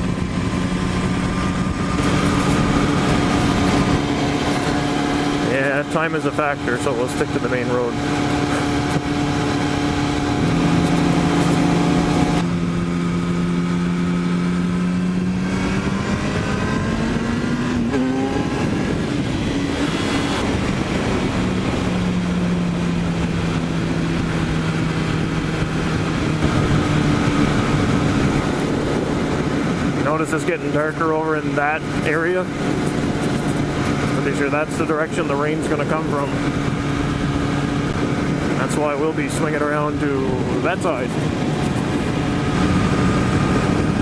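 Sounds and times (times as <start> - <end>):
motorcycle engine running: 0.0 - 44.0
wind rush: 0.0 - 44.0.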